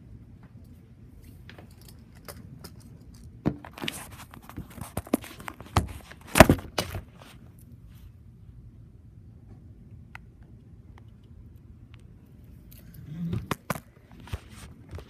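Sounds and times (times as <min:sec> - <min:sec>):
faint low background noise: 0:00.0 - 0:15.0.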